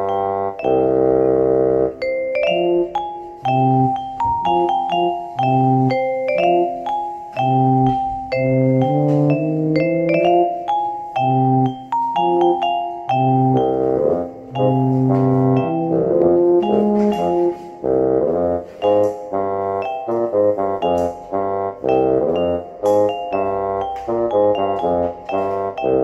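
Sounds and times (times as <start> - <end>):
high ticking percussion: 0.0 - 17.6, 18.8 - 26.0
bell-like mallet melody: 0.0 - 17.8, 18.7 - 26.0.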